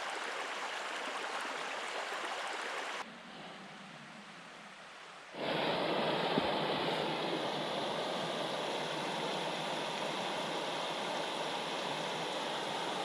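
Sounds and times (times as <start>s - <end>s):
mountain stream rushing: 0.0s - 3.1s, 3.9s - 13.0s.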